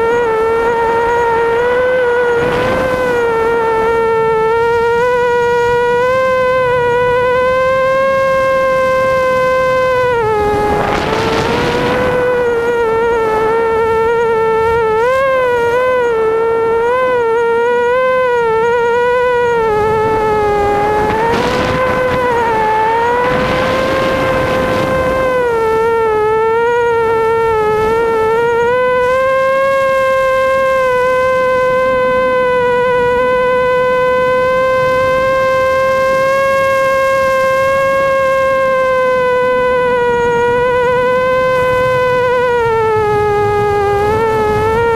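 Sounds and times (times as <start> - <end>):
drone motors whining: 0.0 - 44.9
rushes of noise: 0.0 - 44.9.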